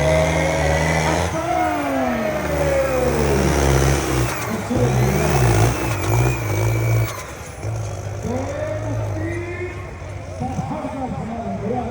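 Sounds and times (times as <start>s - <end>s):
tractor diesel engine revving: 0.0s - 11.9s.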